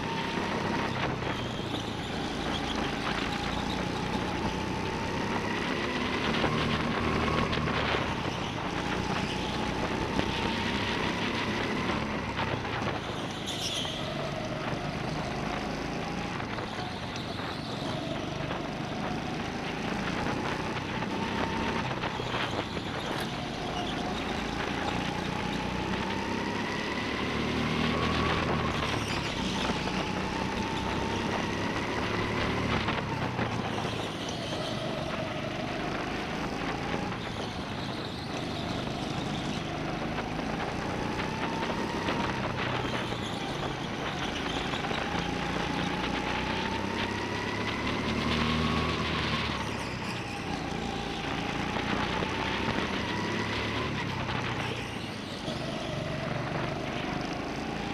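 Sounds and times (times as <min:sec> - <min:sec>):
go-kart engines revving: 0:00.0 - 0:57.9.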